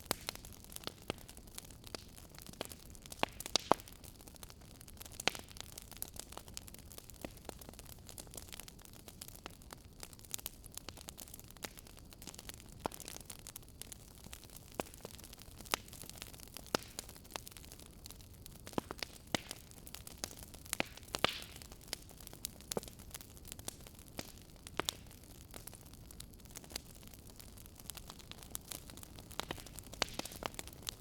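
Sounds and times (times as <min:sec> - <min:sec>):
low steady hiss: 0:00.0 - 0:31.0
wood fire crackling: 0:00.0 - 0:31.0.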